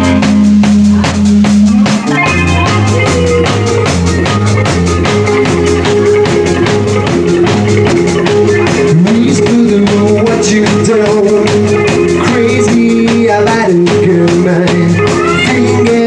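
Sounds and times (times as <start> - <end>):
drum kit beat: 0.0 - 16.0
electric bass: 0.0 - 16.0
electric guitars: 0.0 - 16.0.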